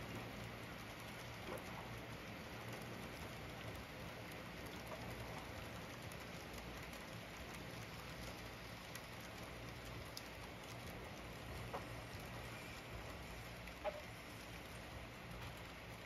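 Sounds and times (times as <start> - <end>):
wheels ticking over rail joints: 0.0 - 16.0.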